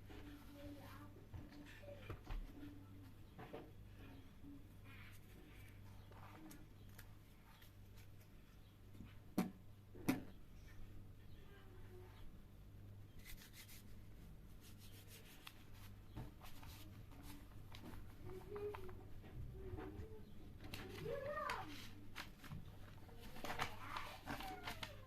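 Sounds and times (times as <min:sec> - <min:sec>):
soft rubbing and handling: 0:00.0 - 0:09.3, 0:13.1 - 0:25.0.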